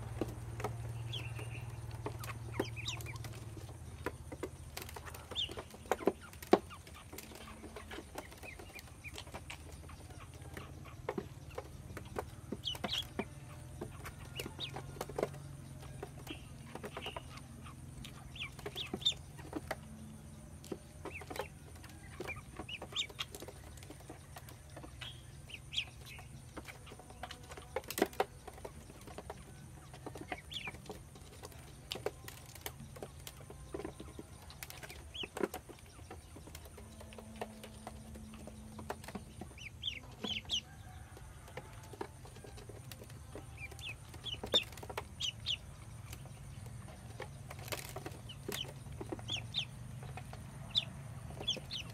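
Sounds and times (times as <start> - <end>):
bills pecking grain in bowl: 0.0 - 51.9
ducklings peeping: 0.0 - 51.9.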